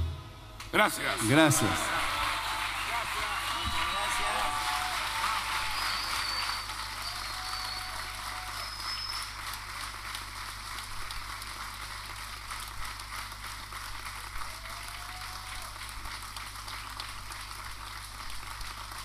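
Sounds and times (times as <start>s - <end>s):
audience applauding: 0.8s - 19.0s.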